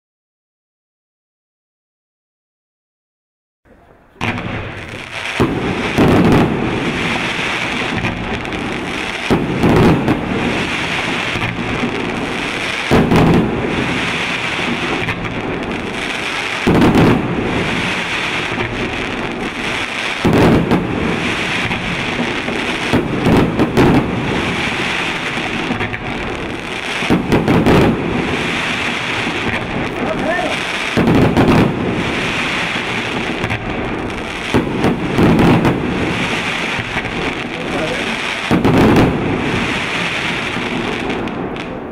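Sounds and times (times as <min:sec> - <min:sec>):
fireworks launches and bursts: 0:04.1 - 0:41.9.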